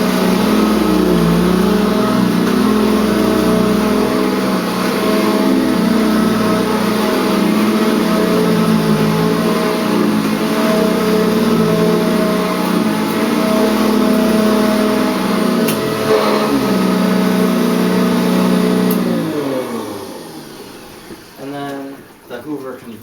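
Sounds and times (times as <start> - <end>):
vacuum cleaner motor running: 0.0 - 22.4.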